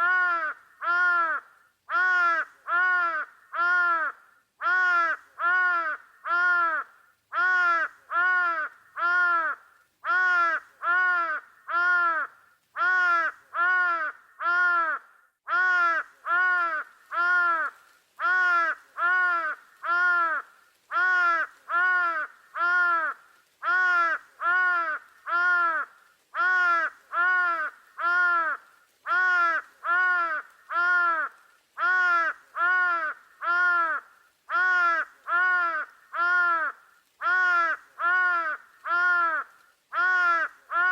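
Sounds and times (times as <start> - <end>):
crow cawing: 0.0 - 40.9.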